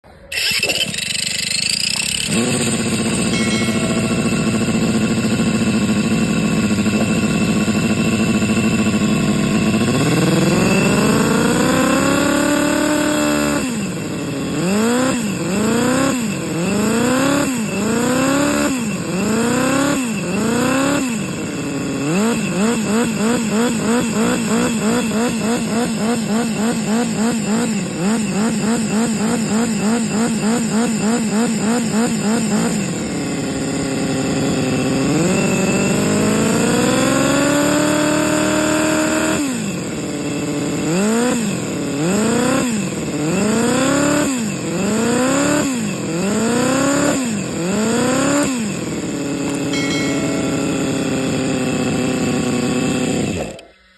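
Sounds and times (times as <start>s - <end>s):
vehicle engine idling and revving: 0.4s - 53.6s.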